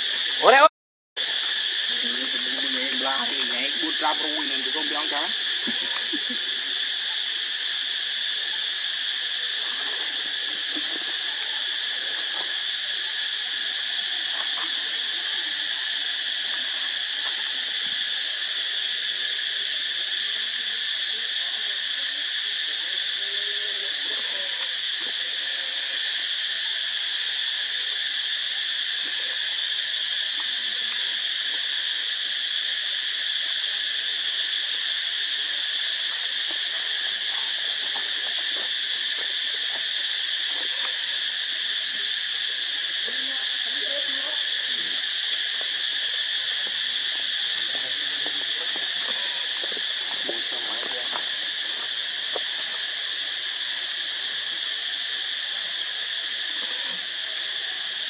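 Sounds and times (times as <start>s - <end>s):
insect chorus drone: 0.0s - 58.0s.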